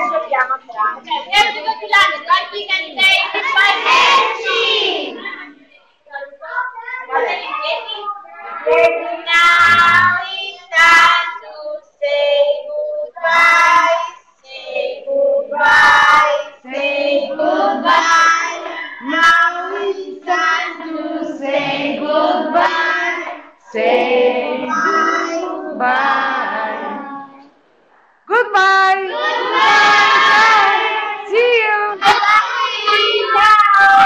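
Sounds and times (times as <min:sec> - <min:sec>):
children singing: 0:01.0 - 0:05.7, 0:06.8 - 0:27.5, 0:29.0 - 0:31.4, 0:32.0 - 0:34.0.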